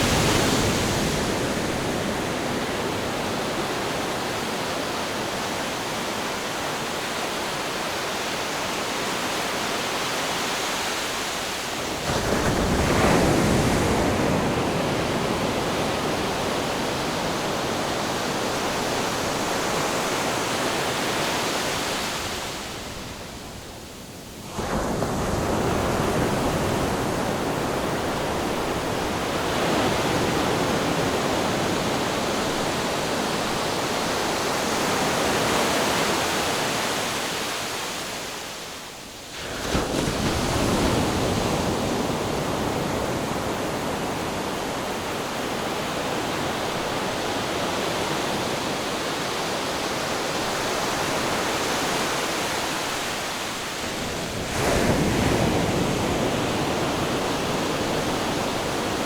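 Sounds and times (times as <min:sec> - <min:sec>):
ocean surf washing: 0:00.0 - 0:59.0.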